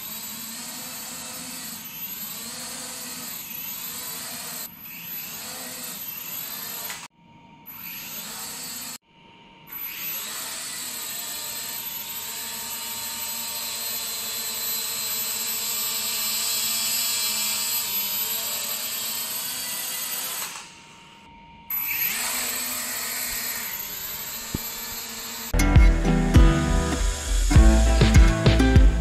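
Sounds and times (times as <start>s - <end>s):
toy drone propellers buzzing: 0.0s - 7.1s, 7.7s - 9.0s, 9.7s - 25.6s.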